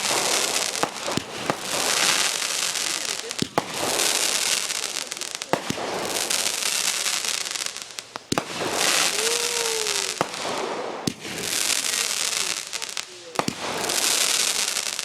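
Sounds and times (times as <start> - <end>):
fireworks cracks: 0.0 - 15.0
fireworks fizzing hiss: 0.0 - 15.0.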